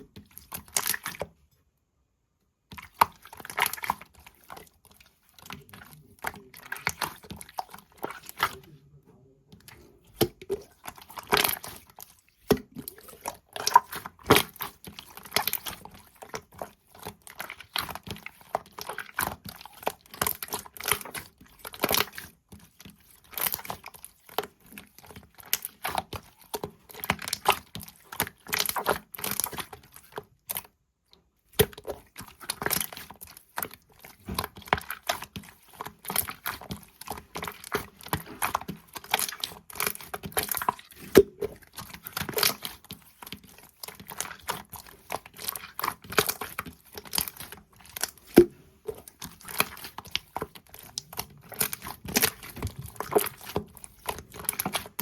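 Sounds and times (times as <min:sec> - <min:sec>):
crinkling and crackling: 0:02.6 - 0:55.0.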